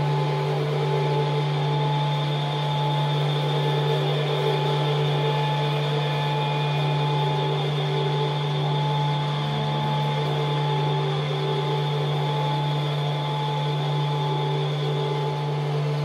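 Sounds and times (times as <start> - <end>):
low drone hum: 0.0 - 16.0.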